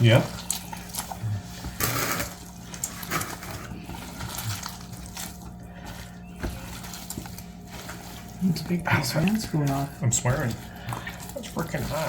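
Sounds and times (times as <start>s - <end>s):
wet squishing and tearing meat: 0.0s - 12.0s.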